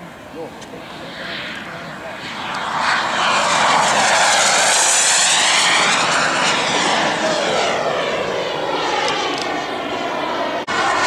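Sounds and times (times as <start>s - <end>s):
model jet turbine flypast: 0.0s - 11.0s.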